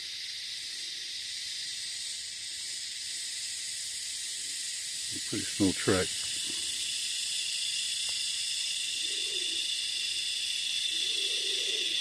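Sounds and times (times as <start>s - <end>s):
insect chorus hissing: 0.0s - 12.0s.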